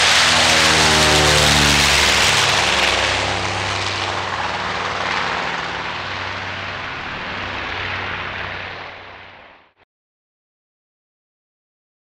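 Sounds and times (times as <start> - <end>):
propeller plane engines droning: 0.0 - 9.8.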